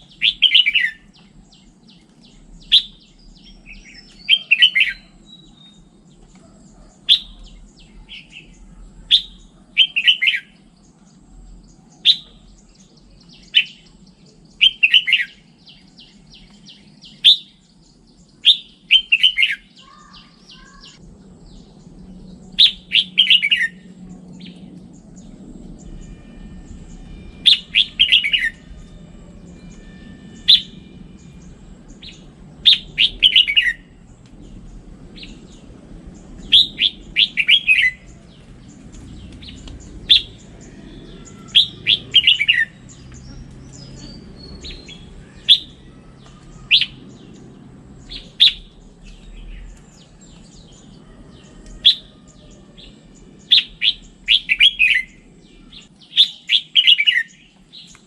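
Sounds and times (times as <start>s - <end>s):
bulbul singing whistled phrases: 0.0s - 6.0s, 6.7s - 10.9s, 11.6s - 34.0s, 36.2s - 47.4s, 48.0s - 50.9s, 53.2s - 58.0s.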